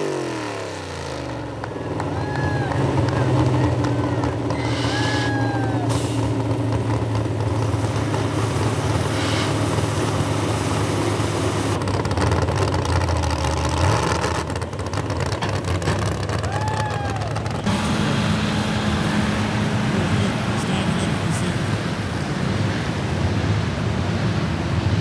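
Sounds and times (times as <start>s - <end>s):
truck engine running under load: 0.0s - 25.0s.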